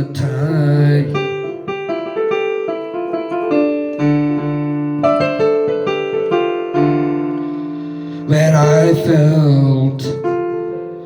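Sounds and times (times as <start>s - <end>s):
slow piano keyboard music: 0.0s - 11.0s.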